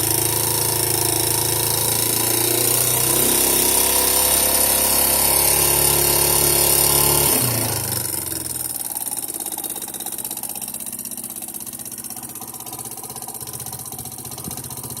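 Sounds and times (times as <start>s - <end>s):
motorcycle engine idling: 0.0s - 6.8s, 7.6s - 15.0s.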